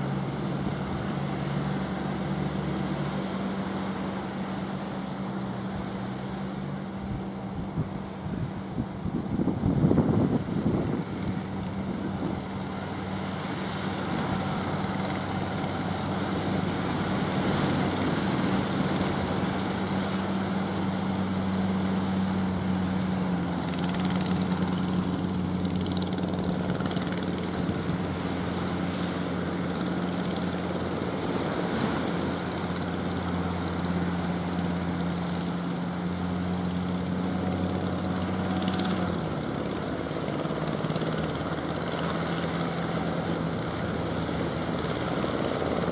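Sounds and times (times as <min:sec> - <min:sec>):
boat engine humming: 0:00.0 - 0:45.9
surf: 0:00.0 - 0:45.9
wind: 0:00.0 - 0:45.9.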